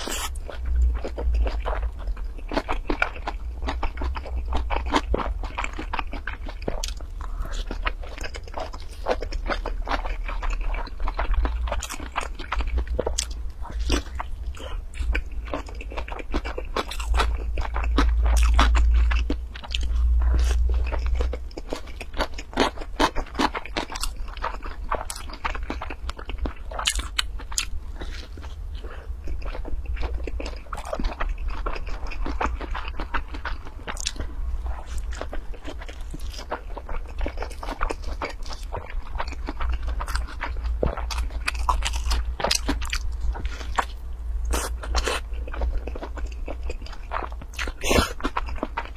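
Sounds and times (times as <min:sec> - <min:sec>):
crunchy chewing and mouth clicks: 0:00.0 - 0:48.9
deep rumble: 0:00.0 - 0:48.9.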